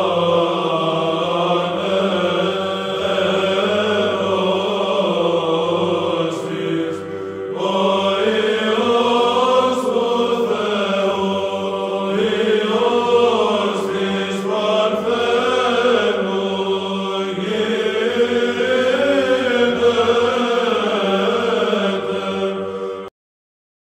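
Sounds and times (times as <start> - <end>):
male choir chanting: 0.0 - 23.1.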